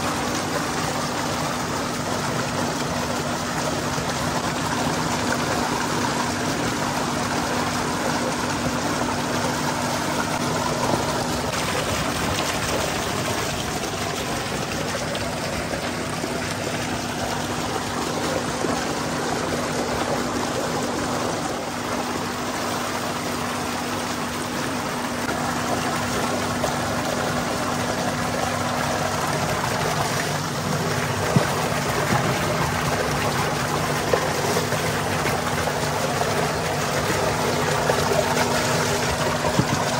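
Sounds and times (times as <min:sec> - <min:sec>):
steady hum: 0:00.0 - 0:39.9
water gushing into a tank: 0:00.0 - 0:39.9.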